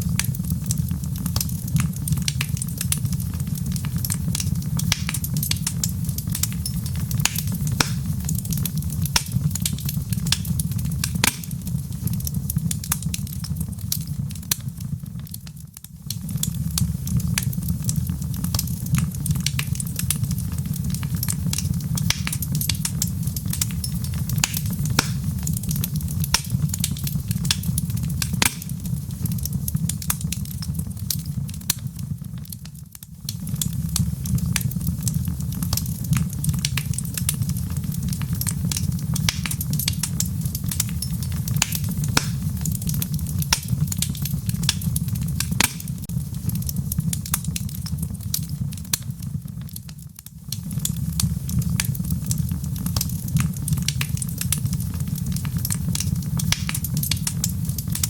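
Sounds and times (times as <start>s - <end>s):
fire rumbling in a fireplace: 0.0s - 58.0s
logs crackling and popping: 0.0s - 58.0s.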